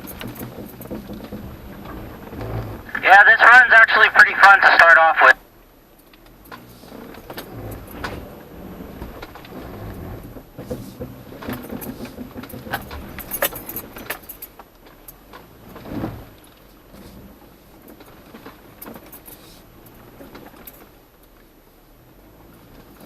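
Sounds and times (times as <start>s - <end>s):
vehicle interior rattles: 0.0s - 5.2s, 5.8s - 23.0s
engine and tyre rumble: 0.0s - 23.0s.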